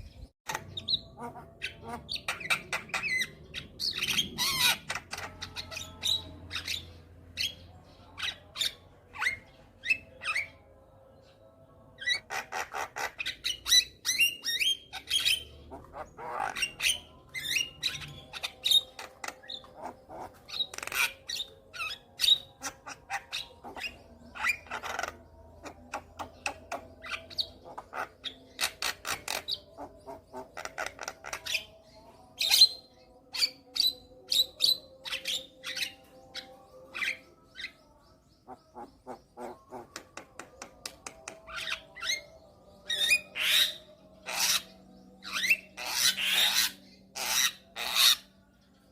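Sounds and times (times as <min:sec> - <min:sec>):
myna bird singing: 0:00.0 - 0:48.9.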